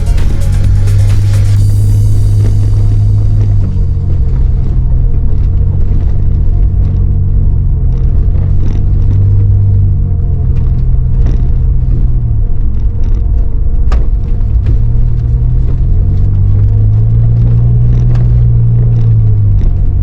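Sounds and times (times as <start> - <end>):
car engine drone while driving: 0.0 - 20.0.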